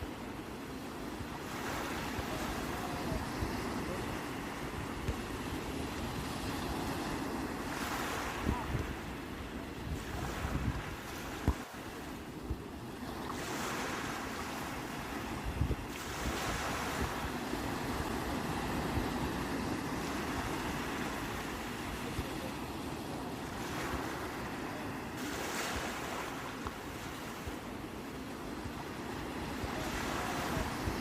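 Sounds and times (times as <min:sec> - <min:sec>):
sea waves washing ashore: 0:00.0 - 0:31.0.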